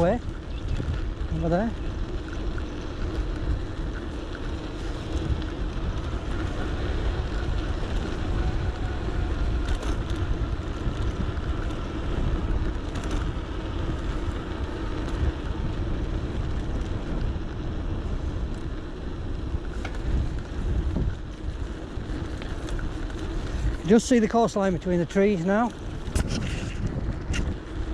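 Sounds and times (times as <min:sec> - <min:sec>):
tyres on road: 0:00.0 - 0:27.9
wind rumbling on microphone: 0:00.0 - 0:27.9.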